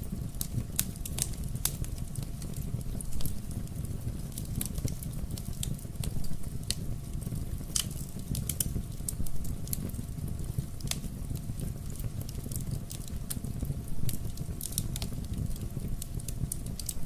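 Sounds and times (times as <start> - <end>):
fire crackles and pops: 0.0 - 17.0
flames rumbling: 0.0 - 17.0.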